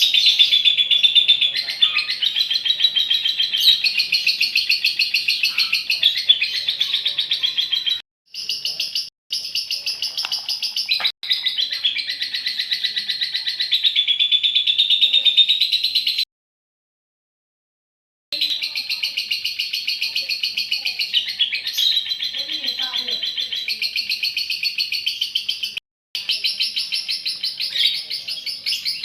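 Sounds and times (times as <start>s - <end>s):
lovebird chattering song: 0.0s - 16.2s, 18.4s - 29.0s.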